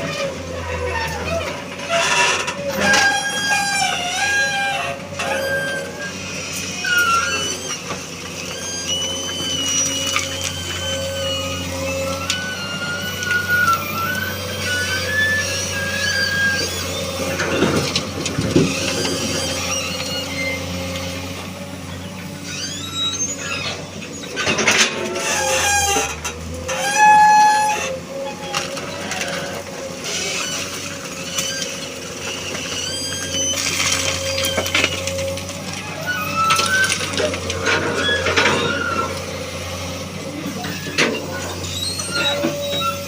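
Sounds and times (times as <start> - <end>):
excavator engine running: 0.0 - 43.0
high squealing tones: 0.7 - 43.0.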